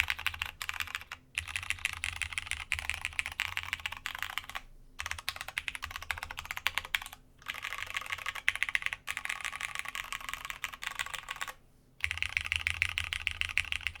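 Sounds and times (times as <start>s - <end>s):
mechanical keyboard typing: 0.0s - 14.0s.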